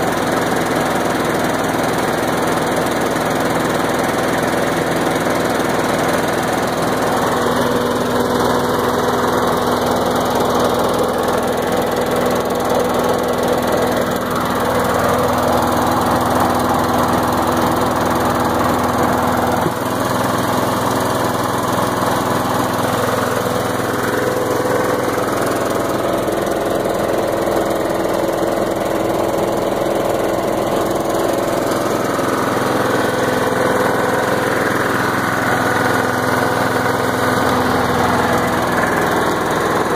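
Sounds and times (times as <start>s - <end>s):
chipper shredder engine running: 0.0s - 39.9s.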